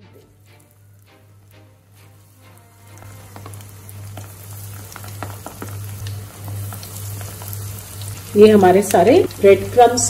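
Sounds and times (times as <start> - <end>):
steady low hum: 0.0 - 10.0
prawns sizzling in hot oil: 0.1 - 10.0
oil crackling and popping: 0.3 - 10.0.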